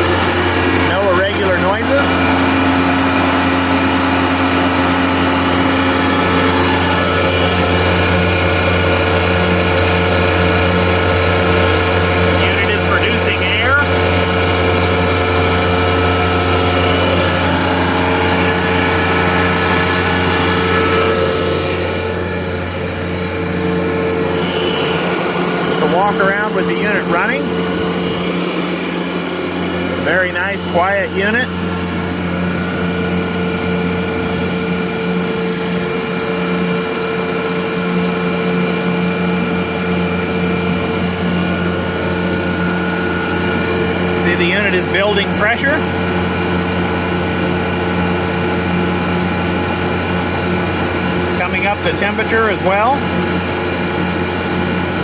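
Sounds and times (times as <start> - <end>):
air compressor humming: 0.0 - 55.0.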